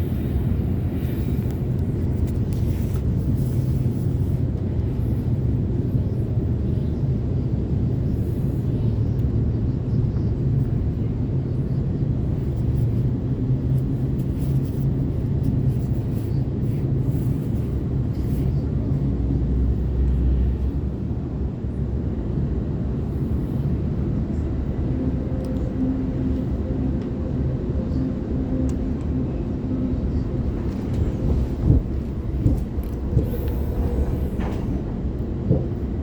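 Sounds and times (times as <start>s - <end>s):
train rumbling on track: 0.0s - 36.0s.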